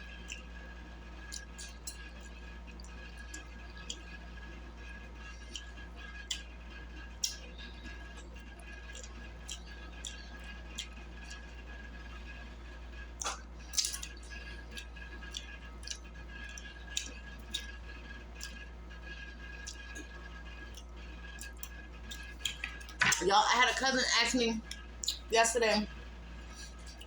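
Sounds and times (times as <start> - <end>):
close chewing and wet smacks: 0.0 - 27.0
steady low hum: 0.0 - 27.0.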